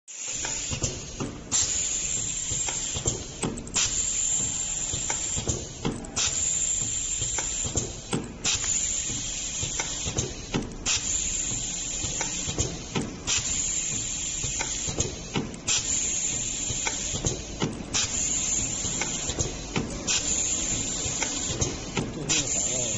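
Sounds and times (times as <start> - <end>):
labelling machine hissing: 0.1 - 22.9
machine clicks: 0.2 - 22.9.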